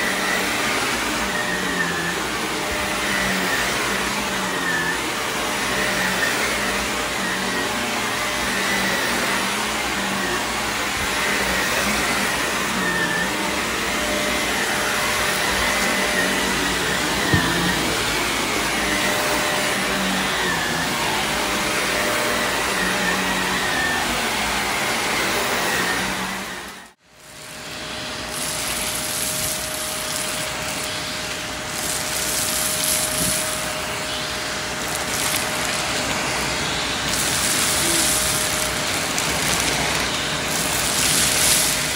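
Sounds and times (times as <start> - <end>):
vacuum cleaner running: 0.0 - 41.9
vacuum hose sucking up debris: 0.0 - 41.9.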